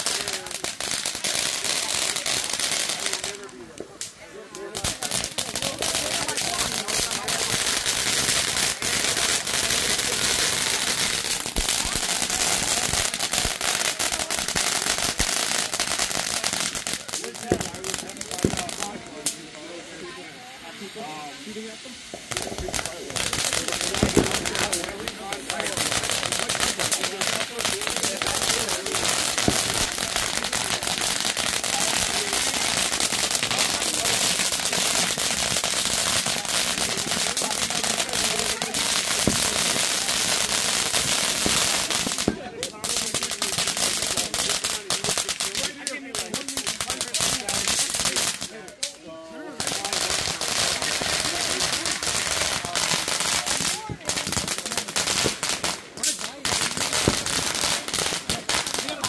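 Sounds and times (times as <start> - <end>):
fireworks hissing and crackling: 0.0 - 59.0.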